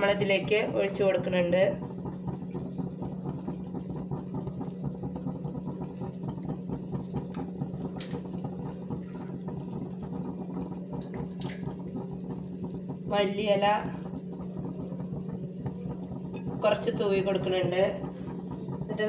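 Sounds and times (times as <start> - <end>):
low hum: 0.0 - 19.0
pot simmering with bubbling crackle: 0.0 - 19.0.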